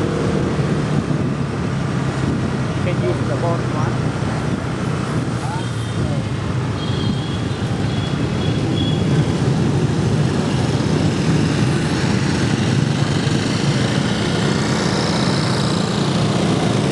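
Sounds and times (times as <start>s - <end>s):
street traffic noise: 0.0s - 16.9s.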